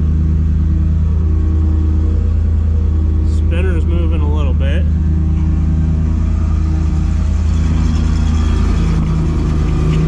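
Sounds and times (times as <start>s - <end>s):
truck engine at fast idle: 0.0s - 10.0s.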